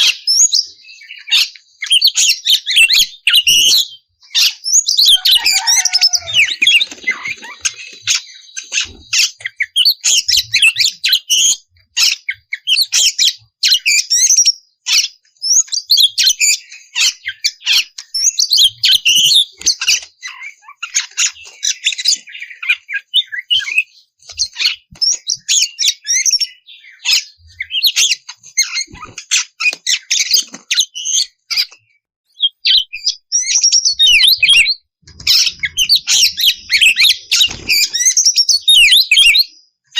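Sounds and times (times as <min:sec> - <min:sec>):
bird singing whistles and chatter: 0:00.0 - 0:39.7.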